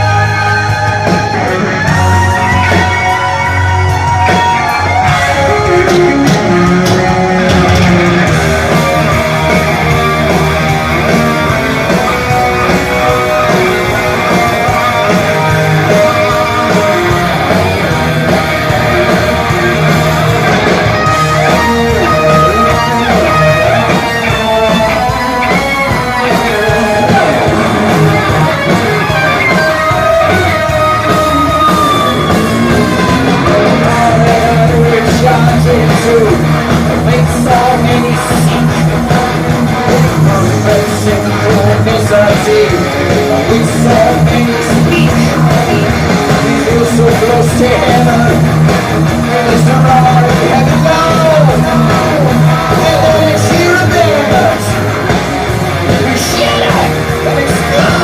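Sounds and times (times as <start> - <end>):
electric guitar bending notes: 0.0 - 58.0
heavy metal band playing: 0.0 - 58.0.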